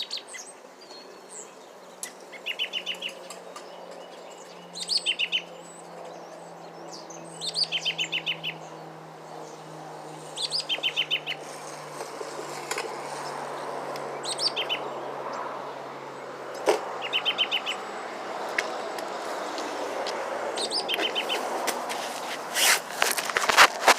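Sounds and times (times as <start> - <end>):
songbird singing: 0.0 - 21.9.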